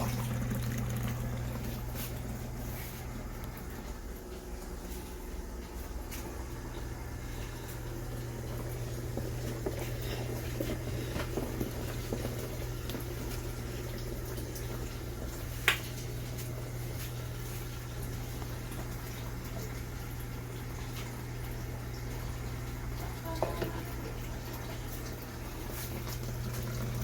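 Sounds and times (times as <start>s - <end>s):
washing machine motor hum: 0.0s - 27.0s
water sloshing in tub: 0.0s - 27.0s.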